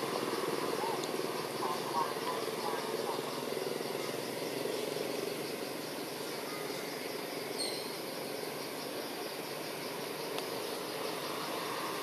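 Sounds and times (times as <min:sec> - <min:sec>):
insects chirring in pulsing rhythm: 0:00.0 - 0:12.0.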